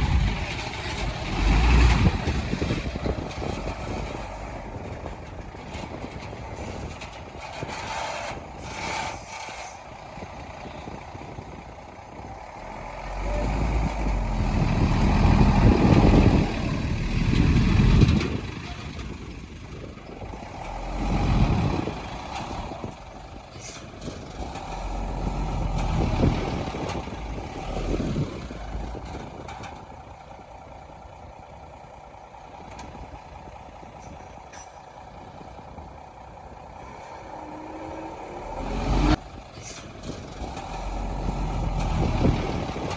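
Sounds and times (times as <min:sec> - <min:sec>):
diesel earthmoving machine engine: 0:00.0 - 0:42.9.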